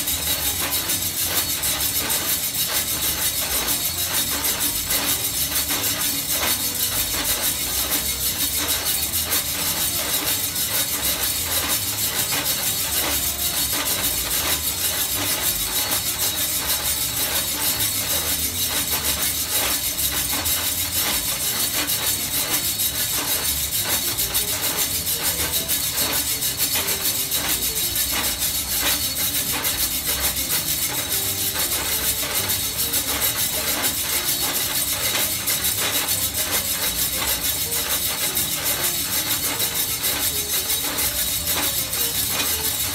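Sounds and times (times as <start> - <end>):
coffee beans tumbling in drum: 0.0 - 42.9.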